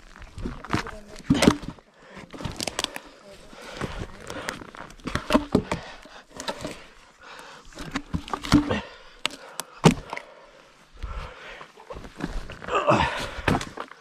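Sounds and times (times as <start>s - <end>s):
sticks and logs knocking together: 0.3s - 3.1s, 3.7s - 10.3s, 12.2s - 14.0s.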